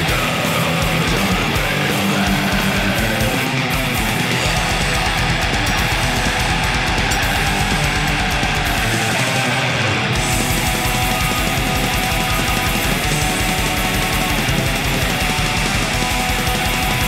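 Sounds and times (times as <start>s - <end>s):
distorted electric guitars: 0.0s - 17.0s.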